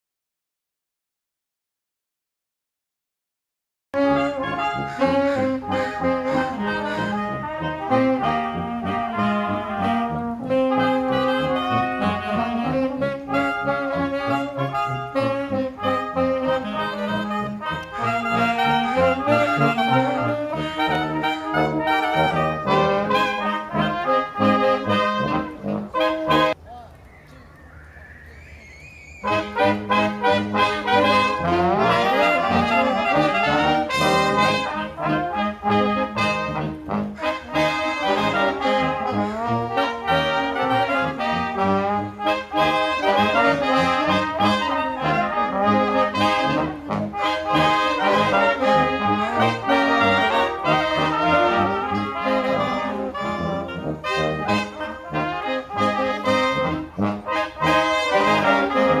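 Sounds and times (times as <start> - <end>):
old-time brass band playing: 4.0 - 27.0, 29.2 - 59.0.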